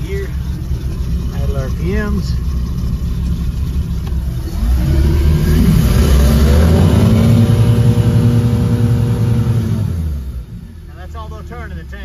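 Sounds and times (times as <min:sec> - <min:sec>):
boat engine revving: 0:00.0 - 0:12.0.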